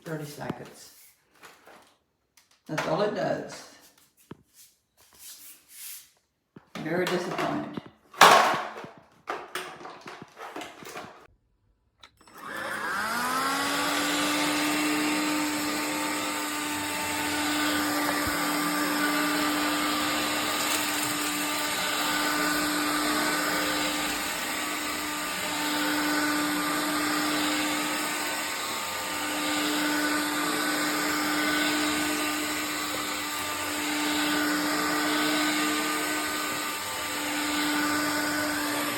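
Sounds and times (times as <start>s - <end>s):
stick vacuum motor whining: 6.8s - 11.3s, 12.0s - 38.9s.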